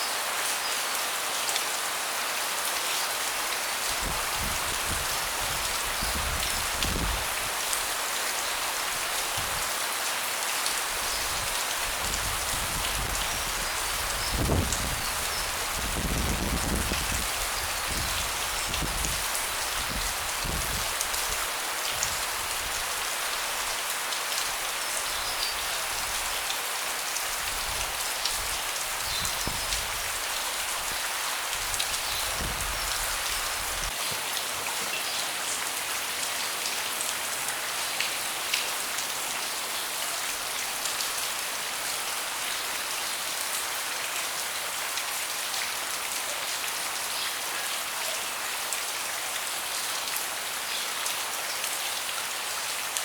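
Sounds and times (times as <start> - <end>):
rain on a deck: 0.0 - 53.0.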